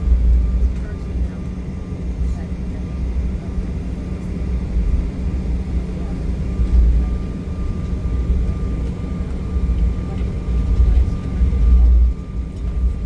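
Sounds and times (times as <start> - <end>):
jet cabin rumble: 0.0 - 13.0.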